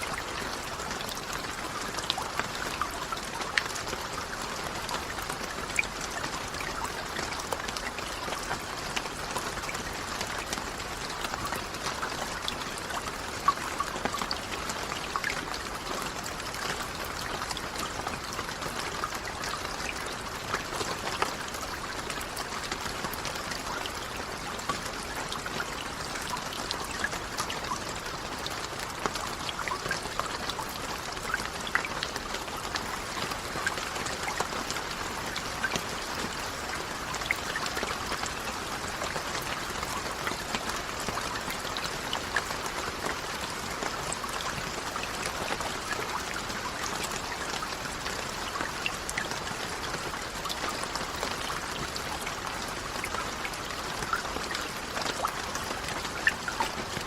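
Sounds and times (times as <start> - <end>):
steady rain falling: 0.0 - 57.0
water trickling: 0.0 - 57.0.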